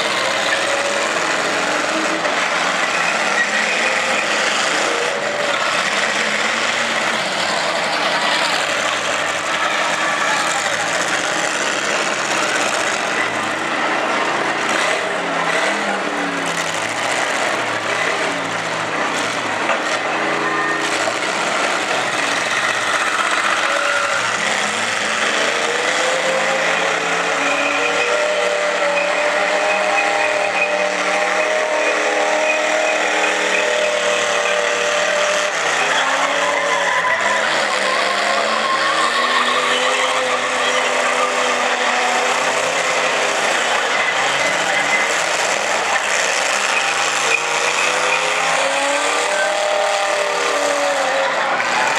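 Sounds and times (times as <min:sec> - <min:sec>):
car engines revving hard: 0:00.0 - 0:51.9
tyres spinning: 0:00.0 - 0:51.9.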